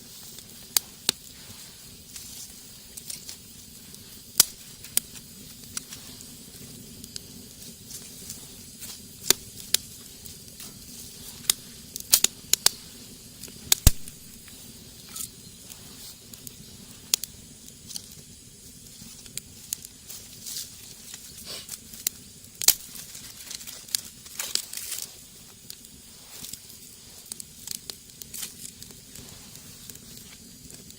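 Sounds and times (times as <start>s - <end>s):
steady fire hiss: 0.0s - 30.9s
wood fire crackling and popping: 0.0s - 30.9s.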